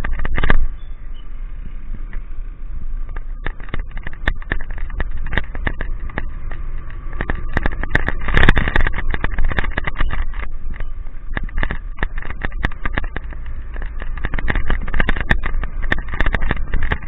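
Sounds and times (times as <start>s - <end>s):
raindrops ticking on camera: 0.0s - 17.0s
vehicle engine and road rumble: 0.0s - 17.0s.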